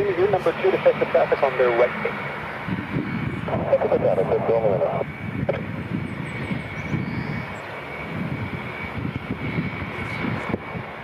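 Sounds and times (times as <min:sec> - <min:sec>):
high engine whine: 0:00.0 - 0:11.0
turboprop engines rumbling: 0:00.0 - 0:11.0.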